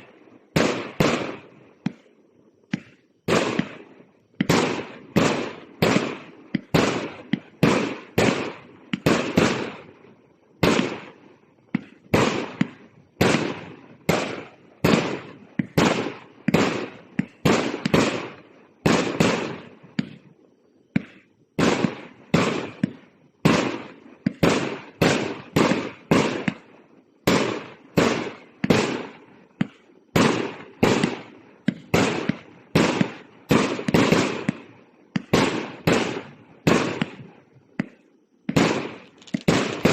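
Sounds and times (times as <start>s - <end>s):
firework cake firing: 0.0s - 39.9s.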